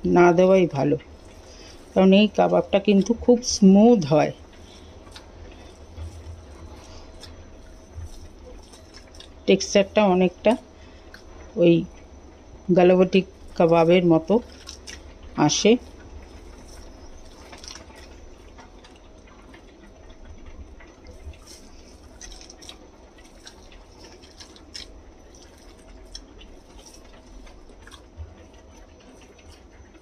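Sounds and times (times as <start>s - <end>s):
hand squelching wet mixture: 0.0s - 11.4s, 12.8s - 19.9s, 20.8s - 30.0s
faint low hum: 0.0s - 30.0s
small irregular clicks: 0.0s - 30.0s.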